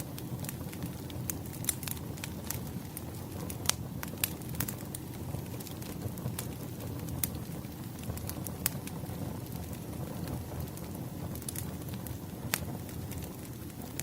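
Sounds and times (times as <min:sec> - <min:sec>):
burning logs crackling and popping: 0:00.0 - 0:14.0
low rush of flames: 0:00.0 - 0:14.0.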